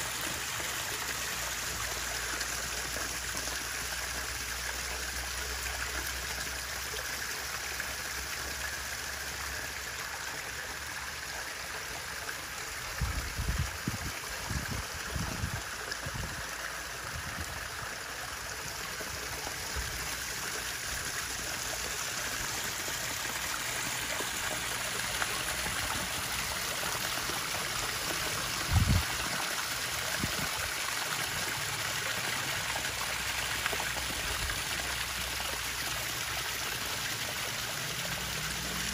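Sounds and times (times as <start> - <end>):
pond water trickling: 0.0 - 38.9.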